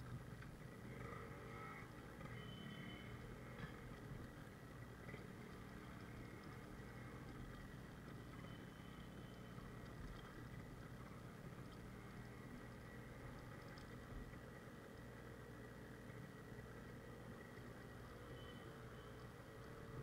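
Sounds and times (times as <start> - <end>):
motorcycle engine low rumble: 0.0 - 20.0.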